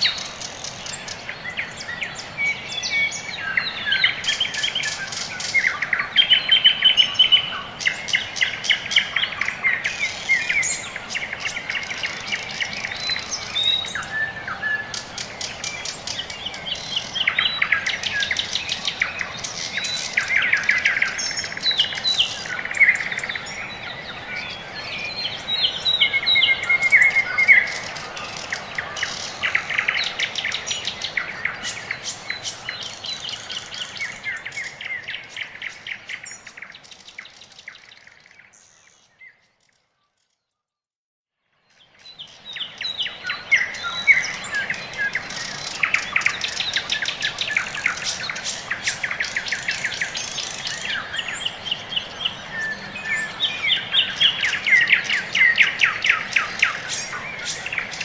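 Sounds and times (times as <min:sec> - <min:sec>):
songbirds chirping and trilling: 0:00.0 - 0:40.7, 0:41.4 - 0:58.0.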